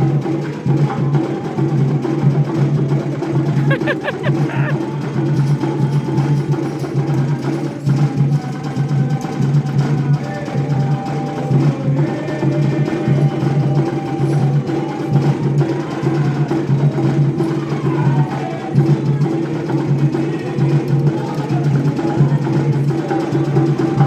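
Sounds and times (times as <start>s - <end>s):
percussion: 0.0s - 24.0s.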